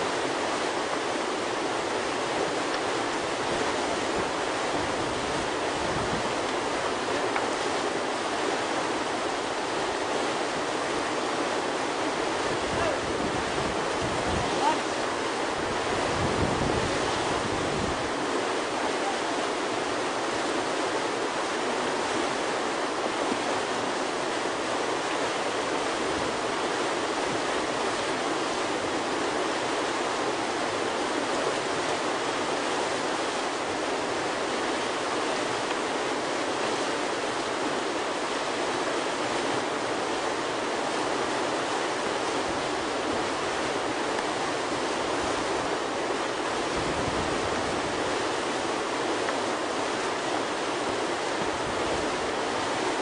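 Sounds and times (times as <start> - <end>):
whitewater rushing: 0.0 - 53.0.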